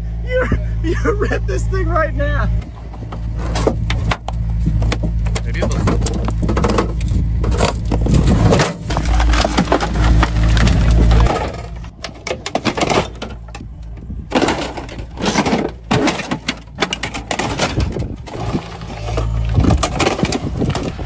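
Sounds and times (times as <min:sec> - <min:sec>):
debris knocking under truck: 0:02.5 - 0:21.0.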